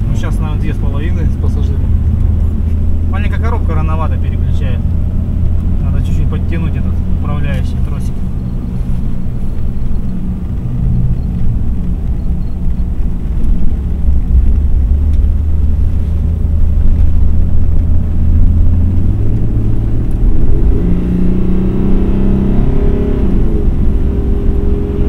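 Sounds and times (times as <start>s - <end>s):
car engine and road drone: 0.0s - 25.0s.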